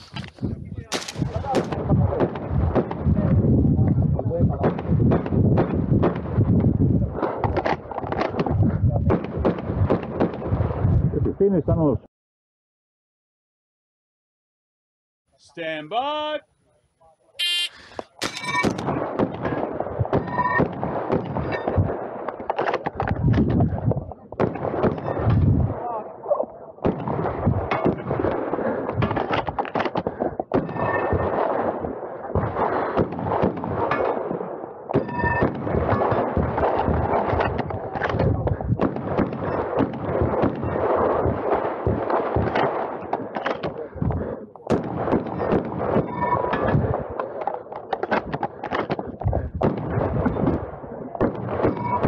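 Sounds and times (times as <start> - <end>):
shotgun firing rapid shots: 0.9 - 3.3, 4.3 - 10.8, 17.4 - 23.8, 24.4 - 26.1, 26.8 - 52.0.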